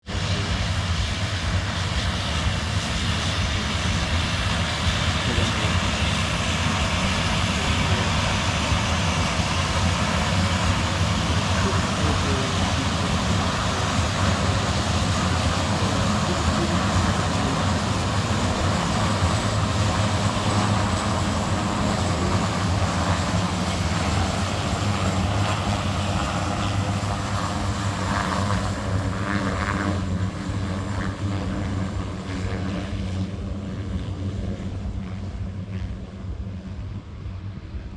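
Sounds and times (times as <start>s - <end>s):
propeller aircraft engines humming: 0.0s - 37.9s.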